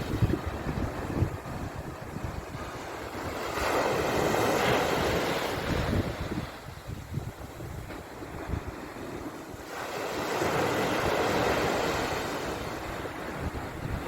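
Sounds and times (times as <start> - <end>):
sea waves washing ashore: 0.0 - 14.0
wind rumble on microphone: 0.0 - 14.0.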